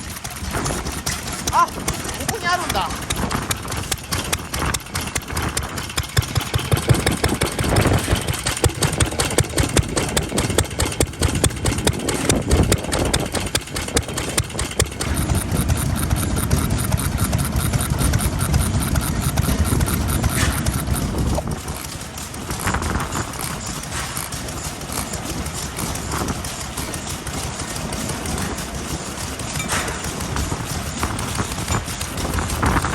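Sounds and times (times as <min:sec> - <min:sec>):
stationary engines idling: 0:00.0 - 0:32.9.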